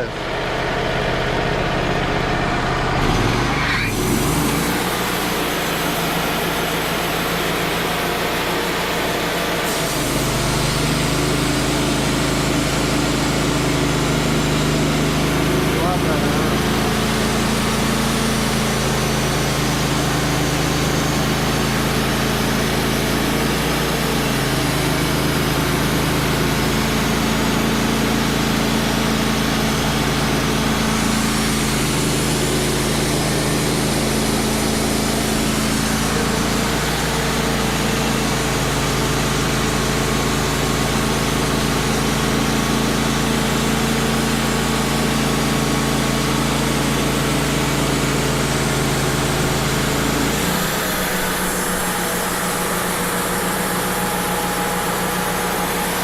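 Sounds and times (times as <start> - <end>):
band sawmill cutting log: 0.0 - 56.0.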